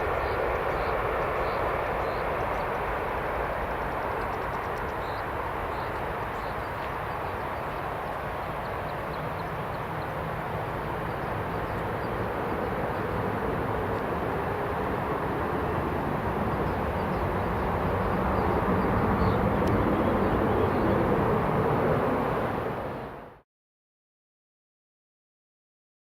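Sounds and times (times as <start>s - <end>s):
jet engines rumbling: 0.0s - 23.4s.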